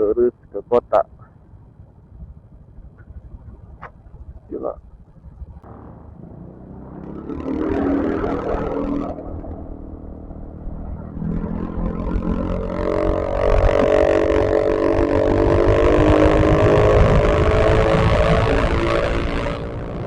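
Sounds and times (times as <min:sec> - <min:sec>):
wind rumbling on microphone: 0:00.0 - 0:20.0
scooter engine accelerating: 0:00.9 - 0:20.0.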